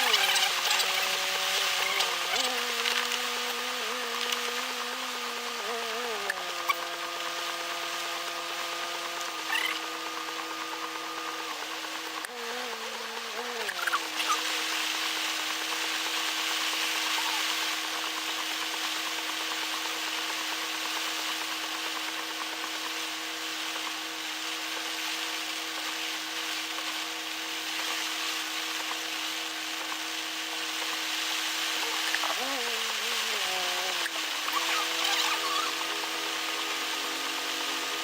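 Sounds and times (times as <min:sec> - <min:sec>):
constant hiss: 0:00.0 - 0:38.0.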